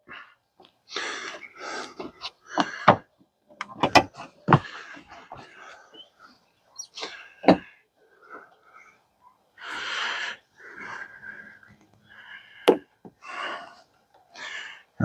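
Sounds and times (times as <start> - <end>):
effortful breaths: 0.0 - 15.0.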